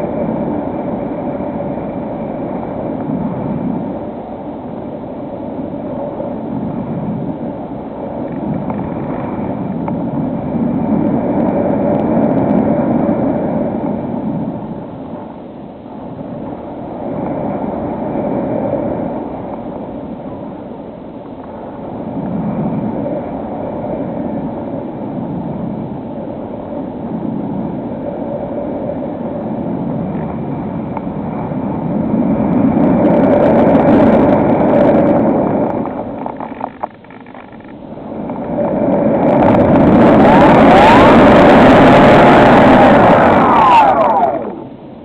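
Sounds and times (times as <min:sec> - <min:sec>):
wind rushing over airframe: 0:00.0 - 0:45.0.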